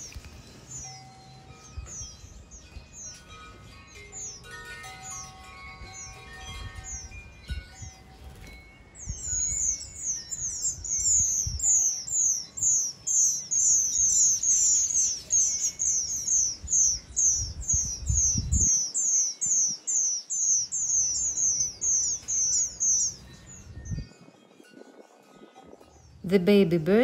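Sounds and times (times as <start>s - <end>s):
nestlings calling: 0.0s - 24.3s.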